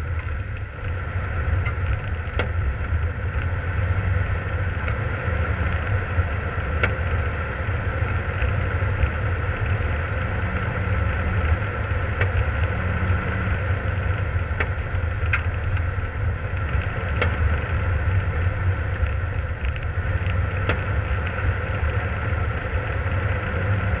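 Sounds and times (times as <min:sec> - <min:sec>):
vehicle engine running: 0:00.0 - 0:24.0
sharp ticks from vehicle: 0:00.1 - 0:03.6, 0:04.4 - 0:10.7, 0:11.3 - 0:23.7.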